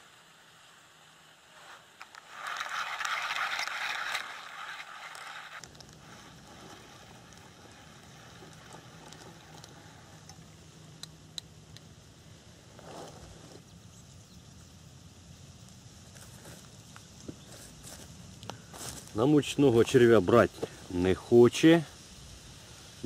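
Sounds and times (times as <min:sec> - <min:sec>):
low steady hum: 0:00.0 - 0:23.0
rustling hiss: 0:00.0 - 0:23.0.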